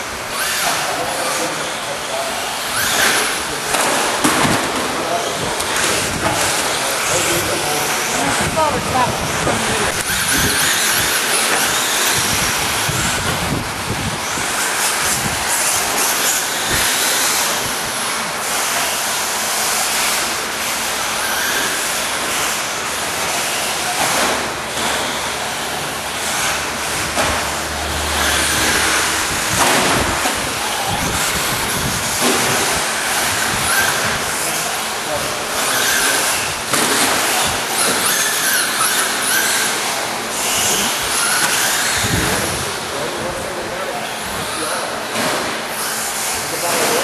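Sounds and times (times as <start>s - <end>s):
rc car motors and tyres on dirt: 0.0s - 43.4s, 44.1s - 47.0s.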